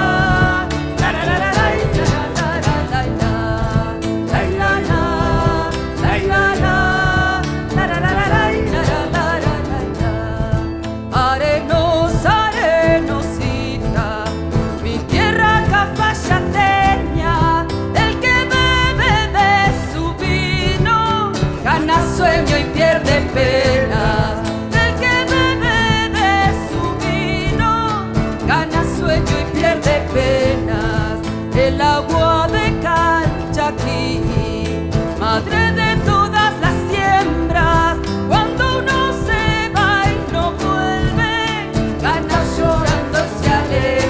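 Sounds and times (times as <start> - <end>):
plucked guitar: 0.0 - 44.0
vibrato melody line: 0.0 - 44.0.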